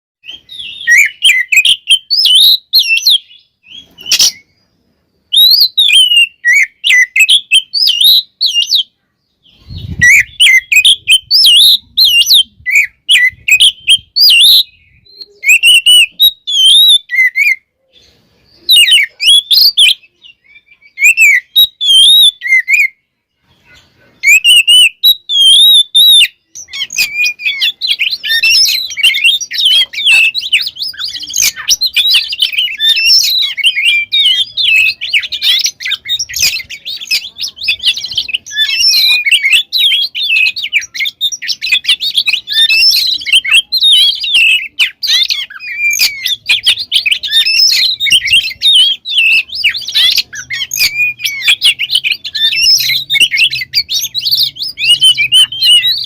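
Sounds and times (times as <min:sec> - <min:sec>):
bird singing whistled phrases: 0:00.2 - 0:56.0.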